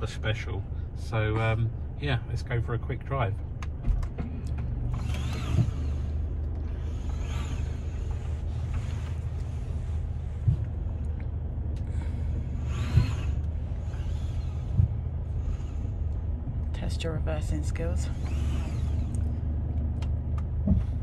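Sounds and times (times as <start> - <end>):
van engine and road hum: 0.0 - 21.0.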